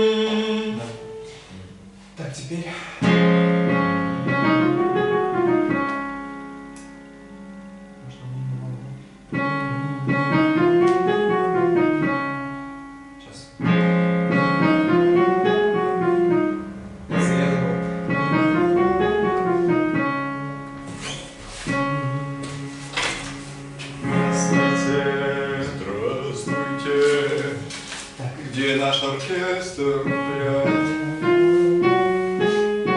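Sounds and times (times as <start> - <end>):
piano chords: 0.0 - 32.9.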